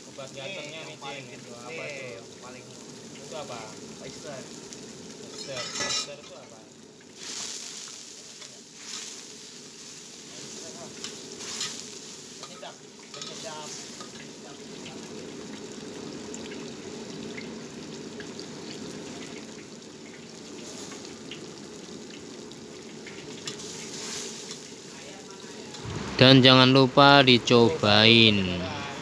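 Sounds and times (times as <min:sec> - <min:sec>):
broth boiling and sizzling in a wok: 0:00.0 - 0:29.0.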